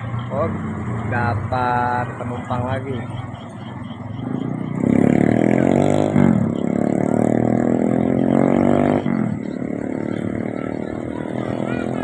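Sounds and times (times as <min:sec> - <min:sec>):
vehicle engine accelerating: 0:00.0 - 0:12.0.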